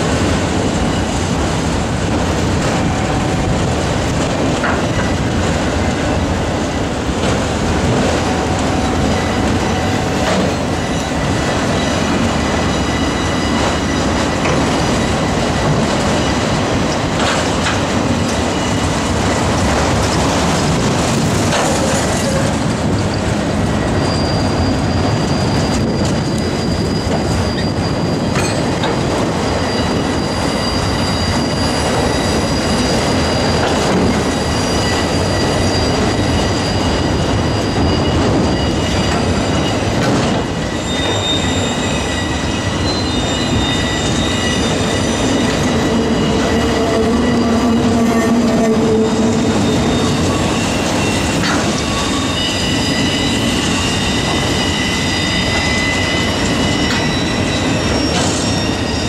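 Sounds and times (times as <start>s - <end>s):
train wheels on rail: 0.0s - 59.0s
high-pitched wheel squeal: 8.2s - 20.3s, 21.5s - 59.0s.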